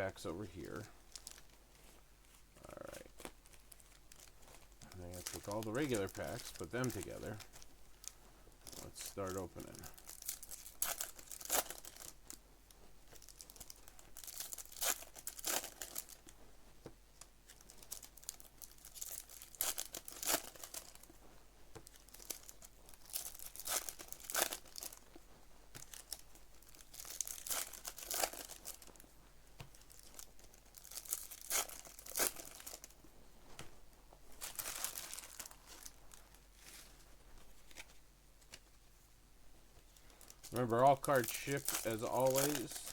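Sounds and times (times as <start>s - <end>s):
wrappers torn and crinkled: 0.6s - 12.4s, 13.0s - 16.4s, 17.2s - 21.1s, 21.8s - 25.2s, 25.8s - 29.0s, 29.7s - 33.0s, 34.3s - 38.8s, 40.0s - 42.9s.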